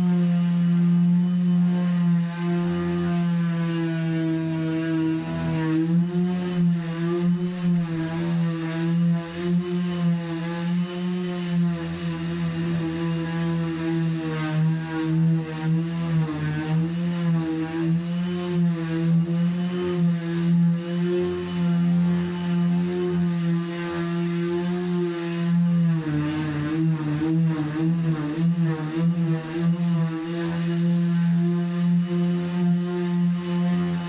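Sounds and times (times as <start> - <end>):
sander motor whine: 0.0 - 34.0.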